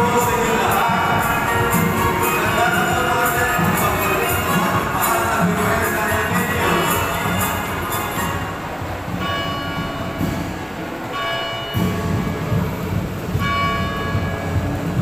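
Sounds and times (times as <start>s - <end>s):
church bell ringing: 0.0s - 12.7s, 13.3s - 14.6s.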